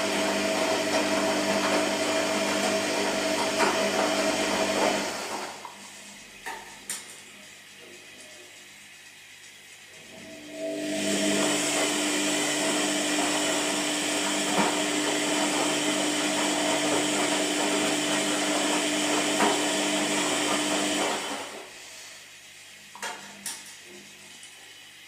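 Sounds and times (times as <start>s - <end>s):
washing machine motor whirring: 0.0s - 25.0s.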